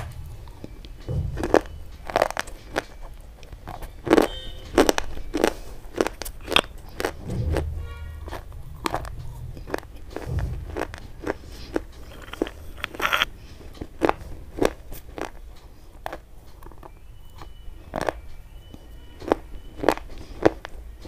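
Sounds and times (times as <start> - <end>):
crunchy sticks being chewed: 0.0 - 21.0.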